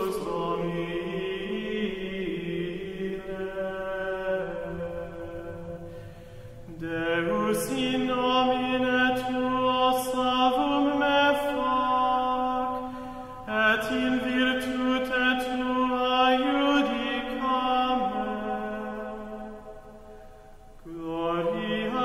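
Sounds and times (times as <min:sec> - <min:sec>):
person chanting a prayer: 0:00.0 - 0:05.9, 0:06.7 - 0:19.7, 0:20.9 - 0:22.0.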